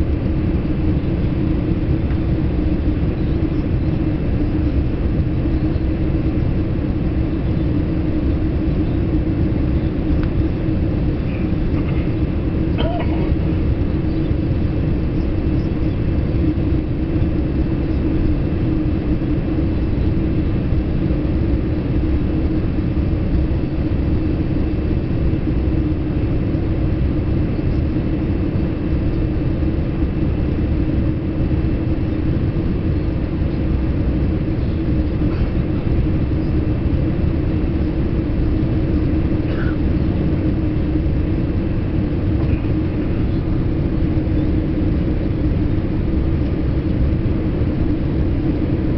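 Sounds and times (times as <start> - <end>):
constant low hum: 0.0 - 48.9
engine and airflow noise: 0.0 - 48.9.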